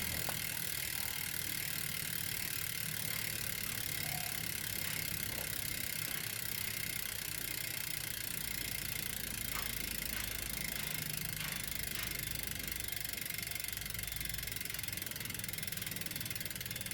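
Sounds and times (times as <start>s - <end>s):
bicycle freehub buzzing: 0.0s - 16.9s.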